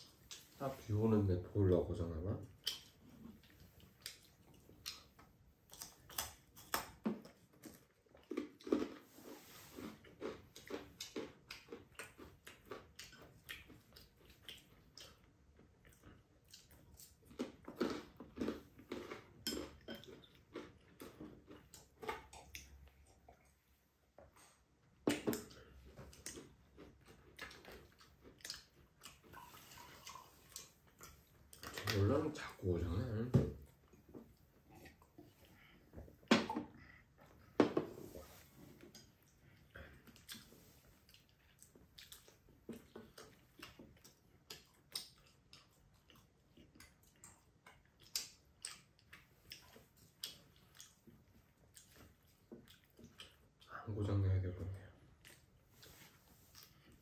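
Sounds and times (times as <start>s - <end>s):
people chewing with open mouths: 0.0s - 0.9s, 1.8s - 57.0s
eating noises: 1.8s - 57.0s.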